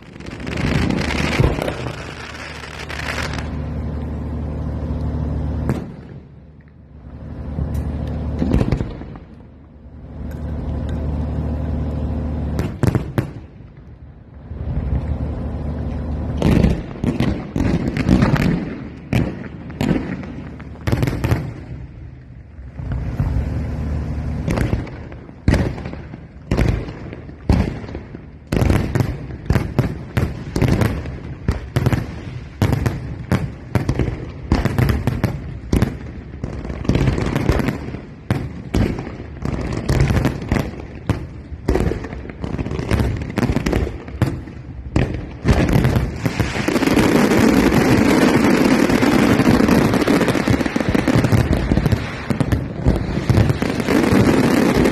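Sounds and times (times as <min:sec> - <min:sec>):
fireworks bangs and booms: 0:00.0 - 0:54.9.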